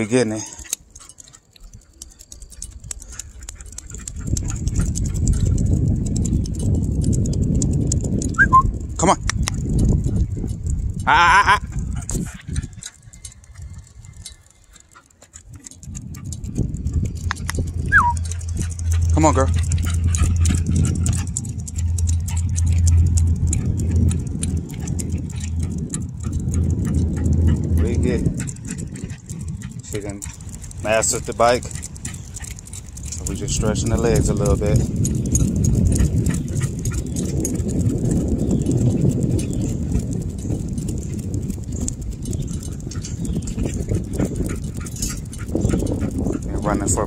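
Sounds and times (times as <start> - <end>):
bicycle tyre rumble on asphalt: 0.0 - 47.0
dog claws clicking on pavement: 0.0 - 47.0
wind buffeting the microphone: 0.0 - 47.0.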